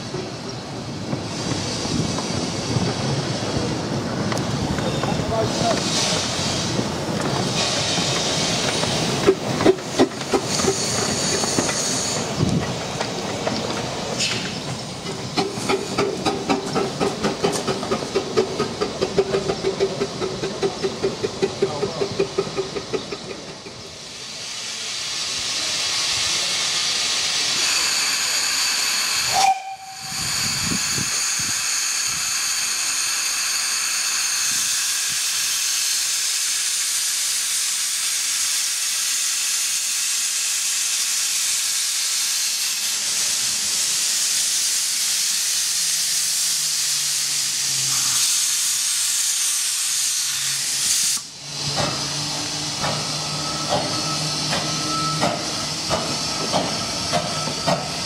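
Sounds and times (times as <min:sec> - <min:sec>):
steam hissing with whistling edge: 0:04.5 - 0:19.7, 0:23.7 - 0:58.0.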